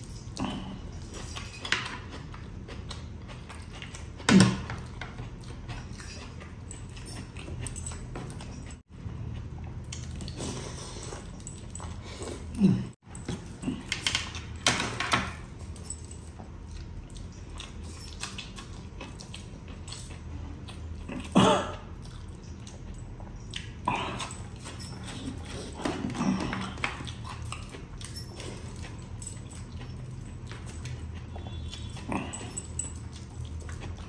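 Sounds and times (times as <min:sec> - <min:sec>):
man chewing food: 0:00.0 - 0:34.0.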